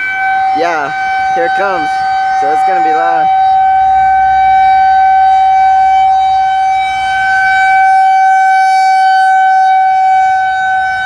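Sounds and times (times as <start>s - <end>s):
rotating warning siren steady tone: 0.0s - 11.0s.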